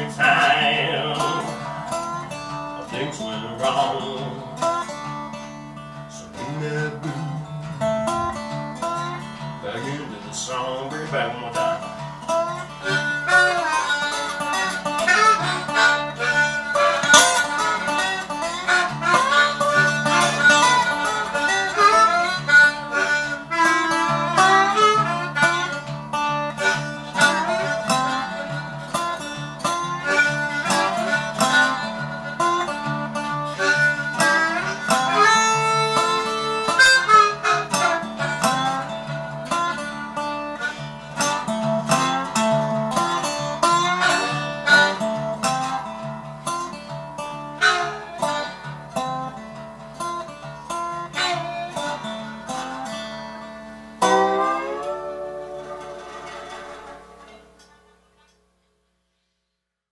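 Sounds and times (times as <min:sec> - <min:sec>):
blues harmonica solo: 0:00.0 - 0:58.2
slide resonator guitar plucked: 0:00.0 - 0:58.3.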